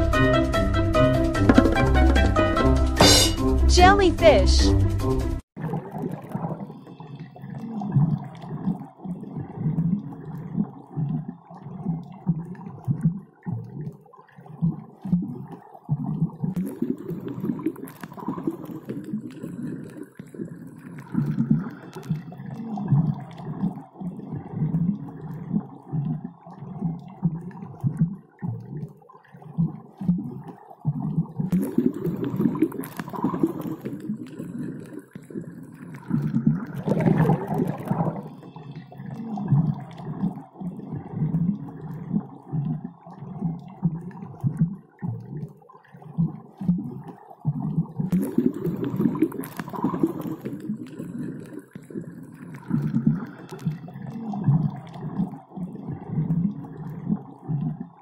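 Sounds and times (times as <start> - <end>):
underwater bubbling and gurgling: 5.6 - 58.0
underwater rumbles: 5.6 - 58.0.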